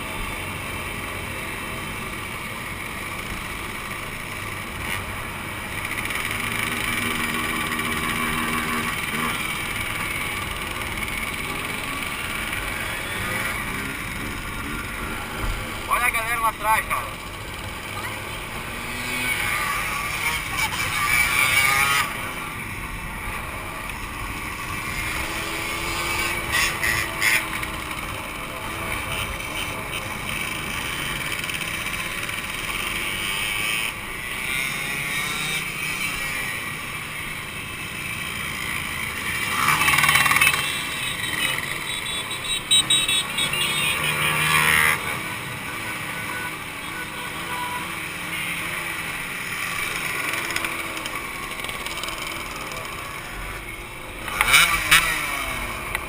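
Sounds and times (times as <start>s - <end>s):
two-stroke motorcycle engines: 0.0s - 56.0s.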